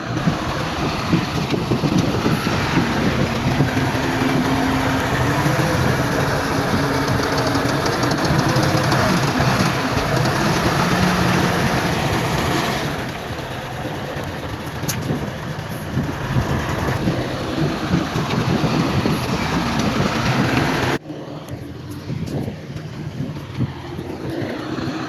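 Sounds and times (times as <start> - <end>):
diesel machinery engine drone: 0.0 - 25.0.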